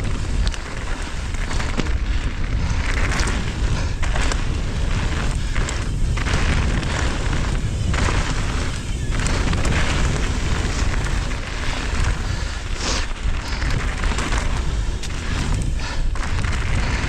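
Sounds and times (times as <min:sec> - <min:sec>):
bike clicks and rattles: 0:00.0 - 0:17.0
mountain bike rolling on dirt: 0:00.0 - 0:17.0
wind buffeting microphone: 0:00.0 - 0:17.0.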